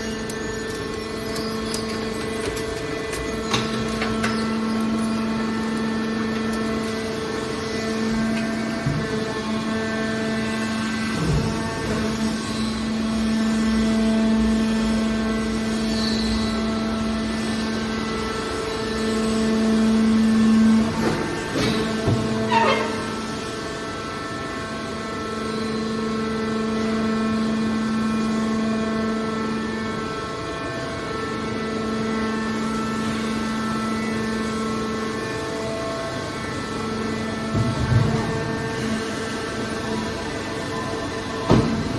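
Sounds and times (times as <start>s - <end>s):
hydraulic power unit humming: 0.0s - 41.9s.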